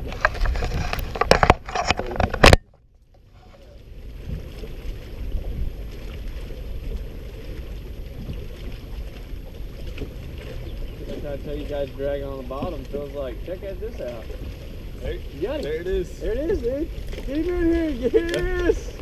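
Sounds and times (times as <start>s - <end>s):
choppy water around boat: 0.0s - 19.0s
wind: 0.0s - 19.0s.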